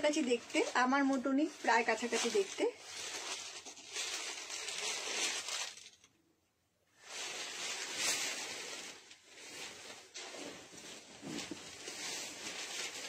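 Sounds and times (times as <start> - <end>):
silk fabric rustling: 0.0 - 5.8, 7.0 - 13.0.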